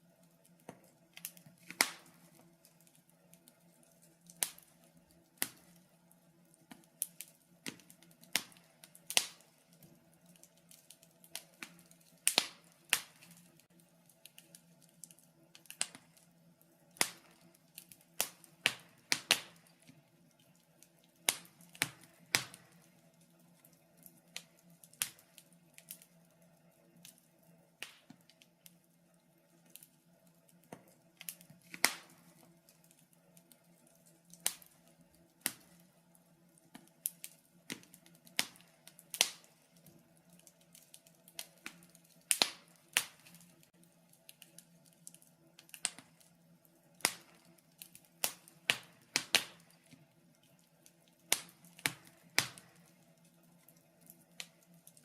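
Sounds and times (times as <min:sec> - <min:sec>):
faint steady hum: 0:00.0 - 0:55.0
wood fire crackling: 0:00.0 - 0:55.0.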